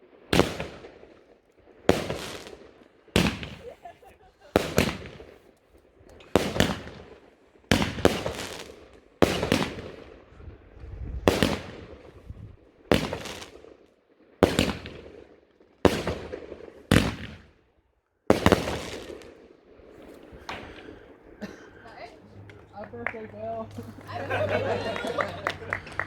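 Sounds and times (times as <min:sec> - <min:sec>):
fireworks bangs: 0:00.0 - 0:10.3, 0:11.1 - 0:13.8, 0:14.4 - 0:17.7, 0:18.3 - 0:26.0.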